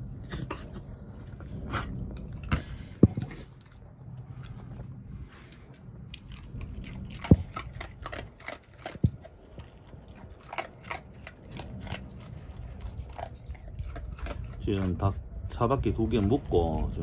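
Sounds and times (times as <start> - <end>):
dog crunching dry kibble: 0.4 - 17.0.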